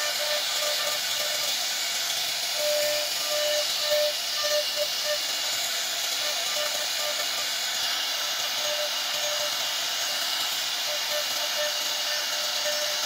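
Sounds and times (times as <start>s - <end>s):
router spindle cutting wood: 0.0s - 13.0s.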